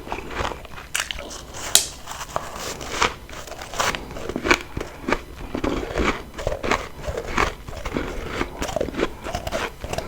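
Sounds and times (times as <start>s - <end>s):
frost being chewed: 0.0s - 10.0s.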